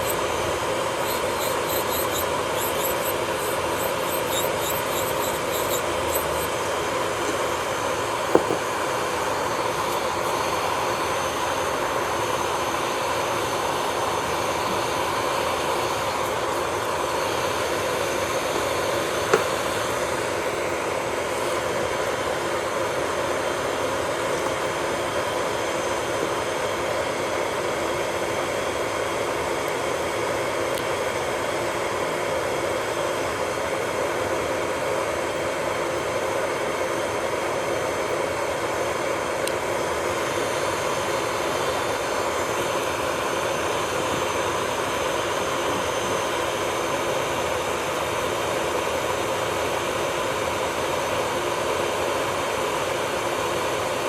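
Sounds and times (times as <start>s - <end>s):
electric nail drill whining: 0.0s - 31.5s, 32.2s - 54.0s.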